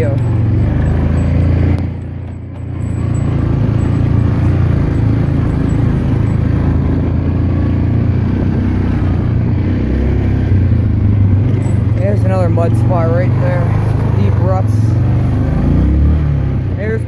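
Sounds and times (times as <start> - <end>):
four-wheeler engine running: 0.0 - 17.0.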